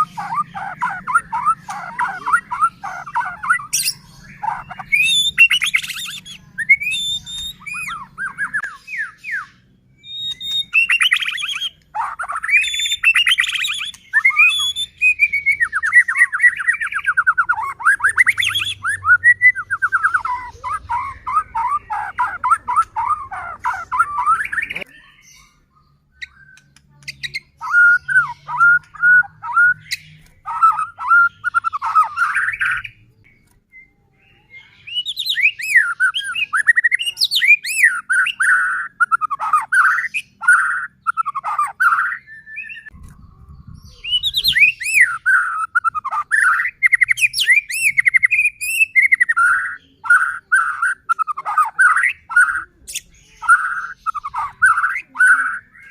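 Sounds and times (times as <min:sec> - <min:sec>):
bird singing whistled notes: 0:00.0 - 0:55.9.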